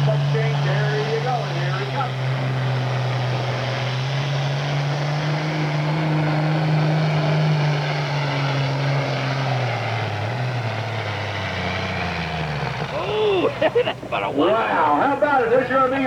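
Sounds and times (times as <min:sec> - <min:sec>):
diesel engine at full throttle: 0:00.0 - 0:16.0.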